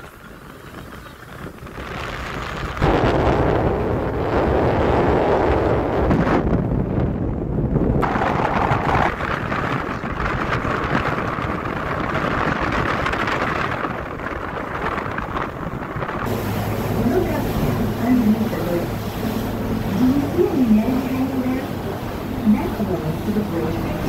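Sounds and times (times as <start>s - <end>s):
boat engine rumble: 0.0s - 24.0s
wind buffeting microphone: 0.0s - 24.0s.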